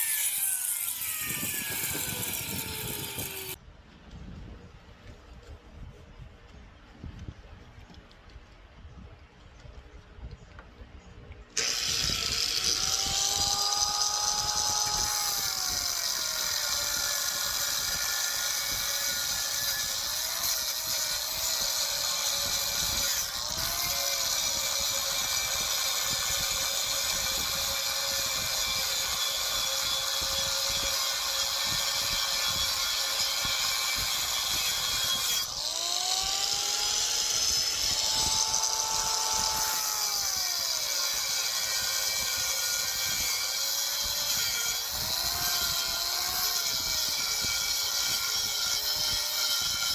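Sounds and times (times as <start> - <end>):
power tool motor whine: 0.0 - 3.6, 11.6 - 49.9.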